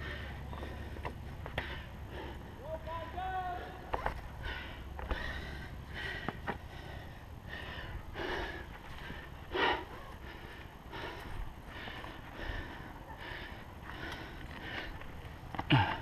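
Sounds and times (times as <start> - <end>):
person breathing hard: 0.0 - 2.7, 3.6 - 16.0.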